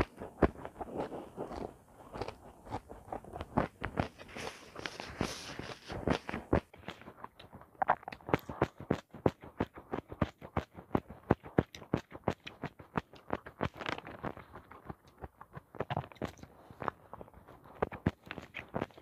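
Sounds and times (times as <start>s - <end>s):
open-mouth chewing: 0.0s - 19.0s.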